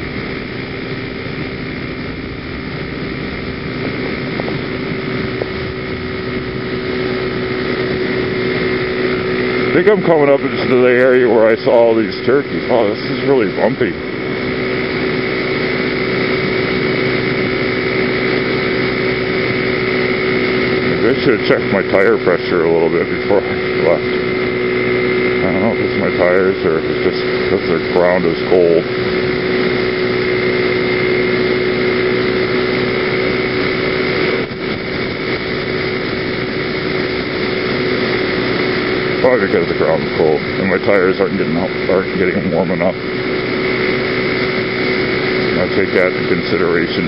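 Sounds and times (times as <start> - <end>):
road and wind noise: 0.0 - 47.0
scooter engine running: 0.0 - 47.0.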